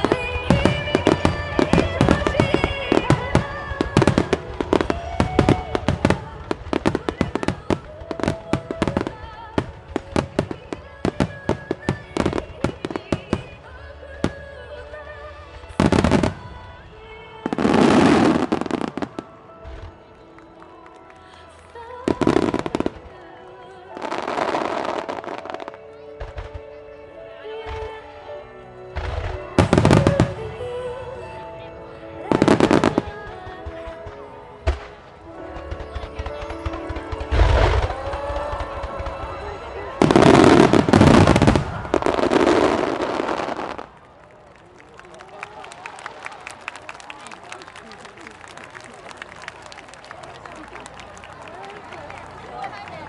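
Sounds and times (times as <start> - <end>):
fireworks cracking and banging: 0.0 - 16.7, 17.3 - 23.3, 23.9 - 26.8, 29.0 - 30.5, 32.3 - 53.0
music: 0.0 - 43.9, 45.3 - 53.0.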